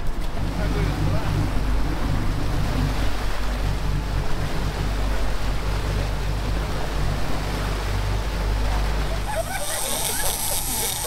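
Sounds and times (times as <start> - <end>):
boat engines droning: 0.0 - 11.0
wake rushing and churning: 0.0 - 11.0.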